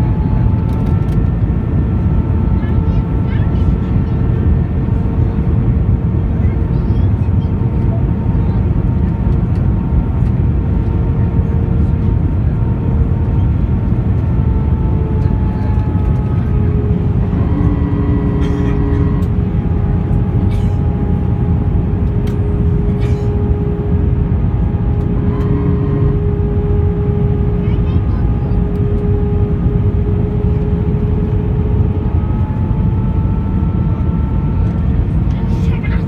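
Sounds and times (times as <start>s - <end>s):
jet engine roar in cabin: 0.0s - 36.0s.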